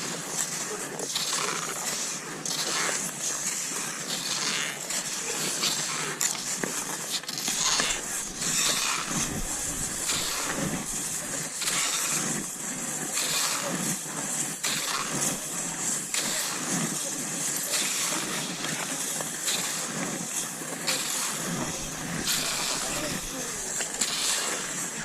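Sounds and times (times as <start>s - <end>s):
skis swishing over snow: 0.0s - 25.0s.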